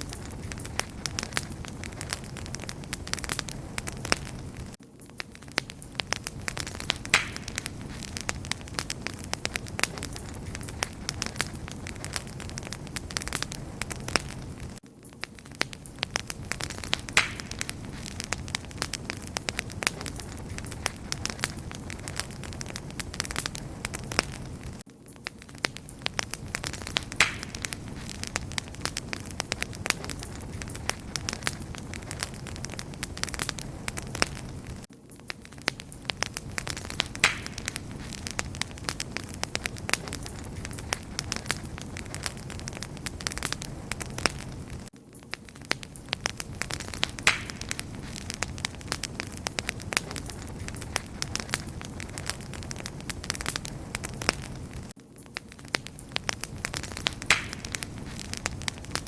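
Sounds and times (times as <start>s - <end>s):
campfire crackling and popping: 0.0s - 59.0s
low fire rumble: 0.0s - 59.0s.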